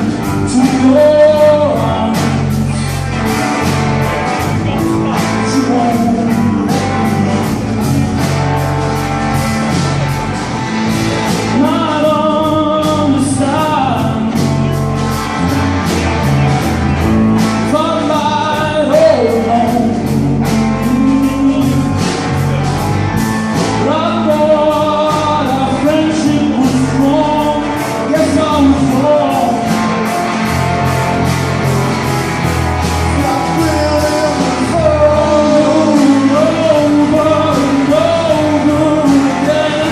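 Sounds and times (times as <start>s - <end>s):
man singing: 0.0s - 8.3s, 10.8s - 15.1s, 17.0s - 31.6s, 32.5s - 39.9s
blues-rock guitar with beat: 0.0s - 39.9s.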